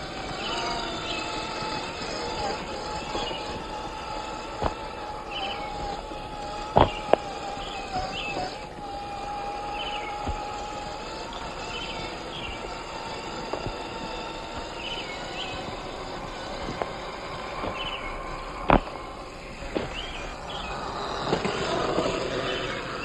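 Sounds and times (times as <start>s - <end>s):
birds chirping: 0.0s - 23.0s
electric motor whining: 0.0s - 23.0s.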